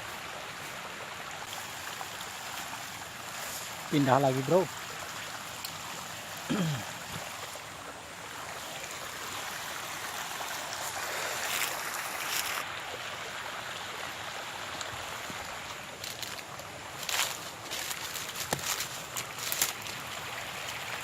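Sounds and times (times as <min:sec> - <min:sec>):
stream running water: 0:00.0 - 0:21.0.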